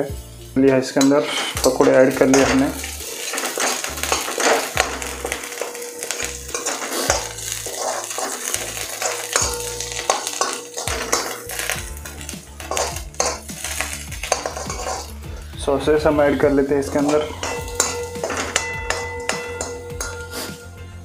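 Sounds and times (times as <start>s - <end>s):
frying sizzle: 0.0s - 21.0s
metal spoon scraping metal pan: 0.9s - 15.3s, 16.2s - 20.9s.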